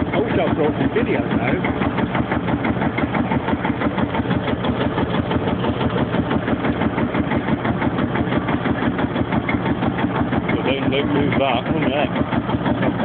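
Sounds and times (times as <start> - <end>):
tractor diesel engine thumping: 0.0 - 13.0.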